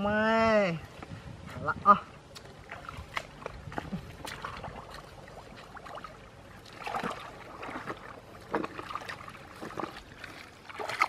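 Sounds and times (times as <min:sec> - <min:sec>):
squelches and splashes: 0:02.1 - 0:11.0.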